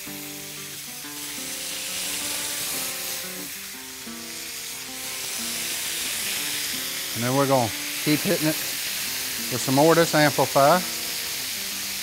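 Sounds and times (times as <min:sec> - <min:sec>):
background music: 0:00.0 - 0:12.0
meat sizzling on griddle: 0:00.0 - 0:12.0.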